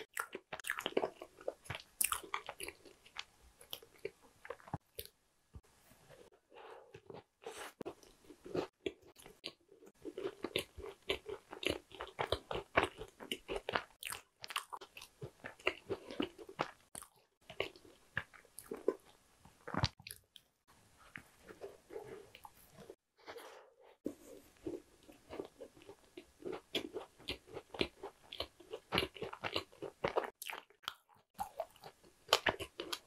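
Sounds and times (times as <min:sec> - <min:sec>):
crunchy pastry chewing: 0:00.0 - 0:05.1, 0:07.0 - 0:23.0, 0:24.0 - 0:33.0.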